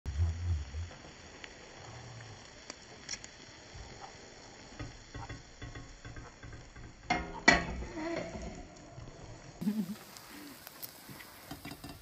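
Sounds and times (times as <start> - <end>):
omelet sizzling in wok: 0.1 - 12.0.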